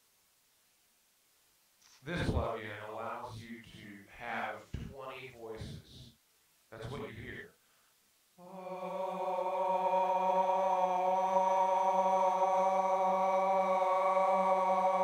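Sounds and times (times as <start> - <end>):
man singing a steady note: 2.1 - 7.6, 8.4 - 15.0.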